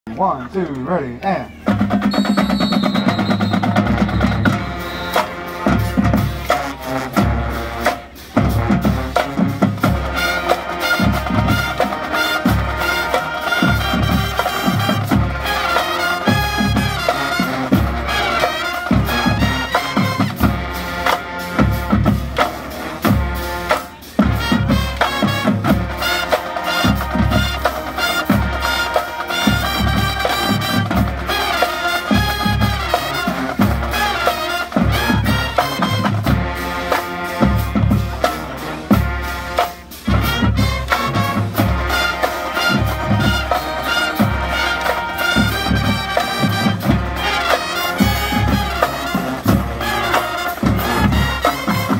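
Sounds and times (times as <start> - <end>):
marching band brass: 1.2 - 51.9
drumline hits: 1.5 - 51.9.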